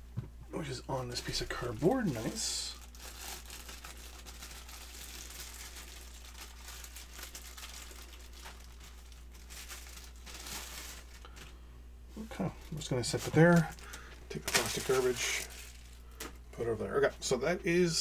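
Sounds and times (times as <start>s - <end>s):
plastic packaging crinkling: 1.1s - 11.6s, 12.3s - 16.5s.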